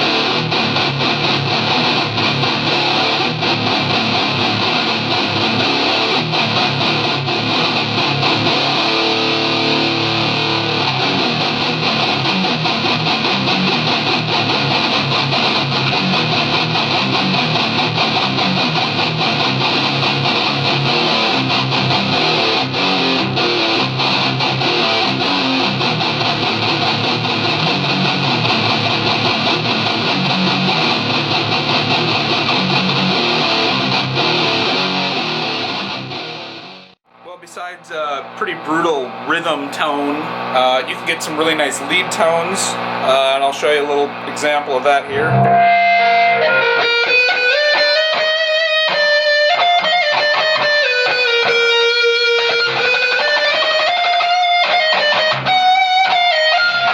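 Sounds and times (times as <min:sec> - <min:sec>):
distorted electric guitar riffs: 0:00.0 - 0:56.9.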